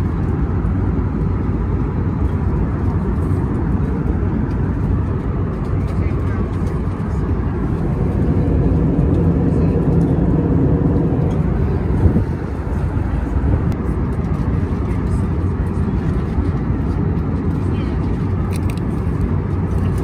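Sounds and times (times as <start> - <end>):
airliner cabin noise: 0.0 - 20.0.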